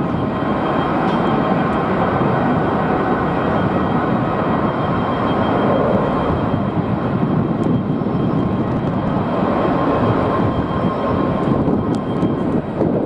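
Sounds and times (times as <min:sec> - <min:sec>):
faint high whine: 0:00.0 - 0:12.8
jet engines rumbling: 0:00.0 - 0:13.0.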